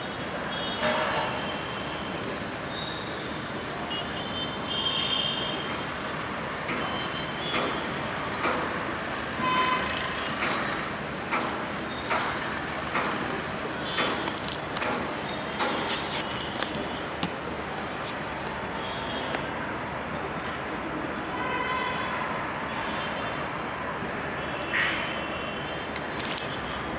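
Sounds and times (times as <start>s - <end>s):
traffic hum: 0.0s - 26.9s.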